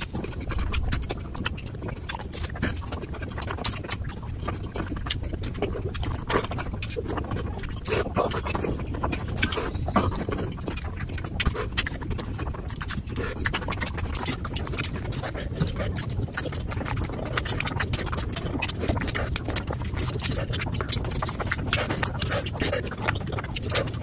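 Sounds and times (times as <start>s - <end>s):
low steady hum: 0.0s - 24.0s
wet chewing and lip-smacking: 0.0s - 24.0s.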